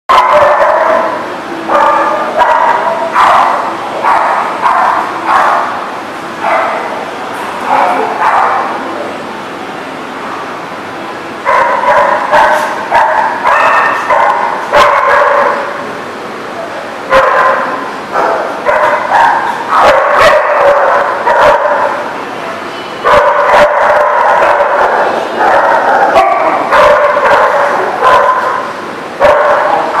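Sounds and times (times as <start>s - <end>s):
dogs barking: 0.1s - 8.9s, 11.4s - 15.9s, 16.6s - 30.0s.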